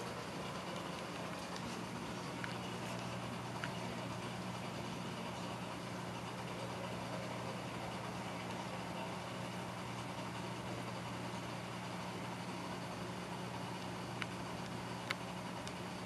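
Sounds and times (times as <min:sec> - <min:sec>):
aquarium pumps humming: 0:00.0 - 0:16.0.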